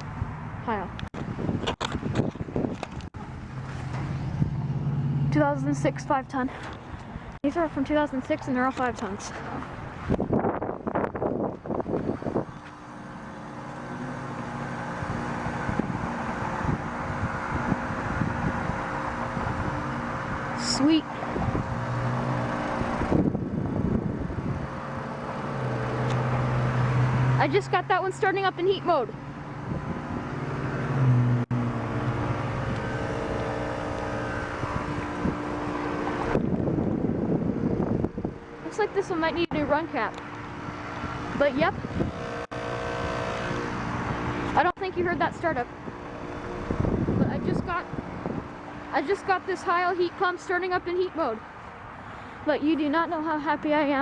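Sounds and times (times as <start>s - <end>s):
heat pump hum: 2.6s - 54.0s.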